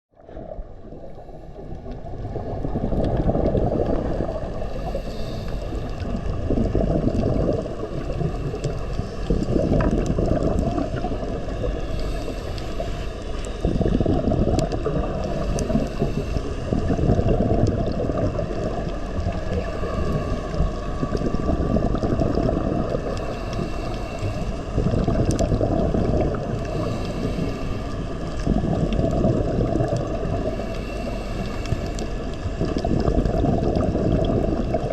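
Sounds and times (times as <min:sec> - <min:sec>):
muffled rushing water: 0:00.1 - 0:34.9.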